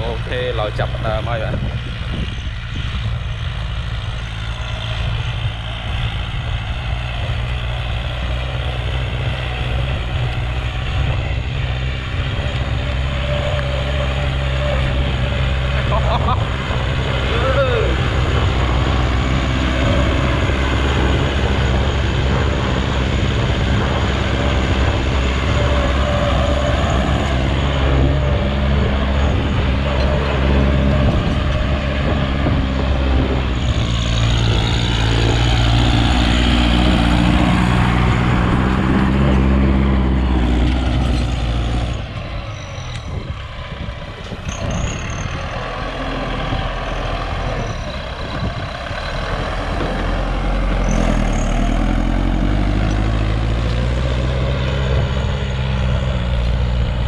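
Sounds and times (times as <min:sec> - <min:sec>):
rotary tiller in dry soil: 0:00.0 - 0:57.0
tractor diesel engine under load: 0:00.0 - 0:57.0.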